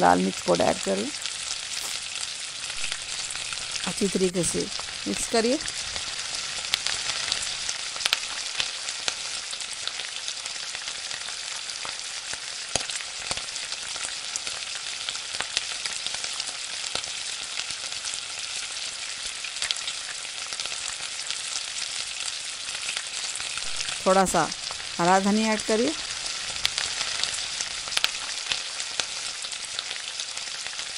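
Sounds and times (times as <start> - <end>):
meat sizzling in oil: 0.0 - 30.9.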